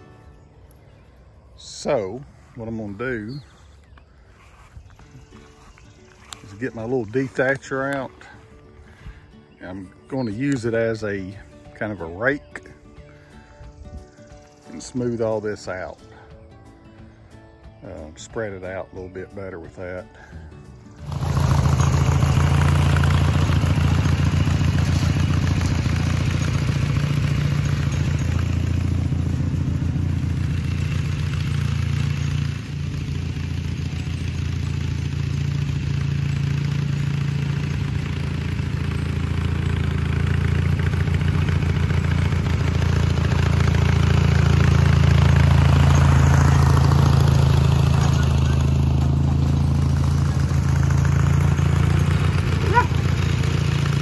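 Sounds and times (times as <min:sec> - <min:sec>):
garden tractor engine running: 0:00.0 - 0:16.4, 0:17.1 - 0:54.0.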